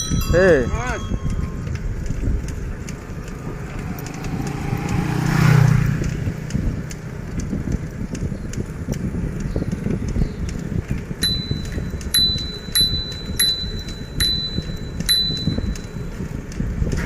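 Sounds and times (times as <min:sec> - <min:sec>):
motor vehicle passing: 0:00.0 - 0:16.9
wind and road noise: 0:00.0 - 0:17.0.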